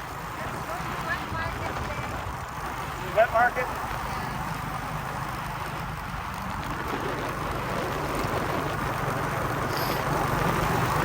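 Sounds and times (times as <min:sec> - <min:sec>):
road and wind noise: 0:00.0 - 0:11.0
small motorcycle engine running: 0:00.0 - 0:11.0.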